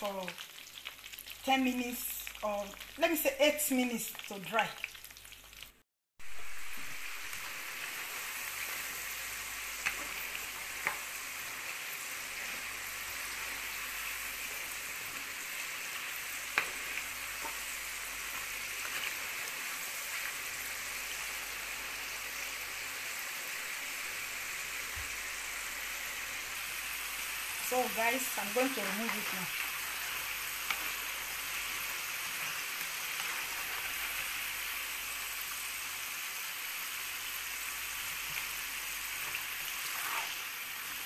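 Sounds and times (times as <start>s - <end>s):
fries sizzling in hot oil: 0.0s - 41.0s.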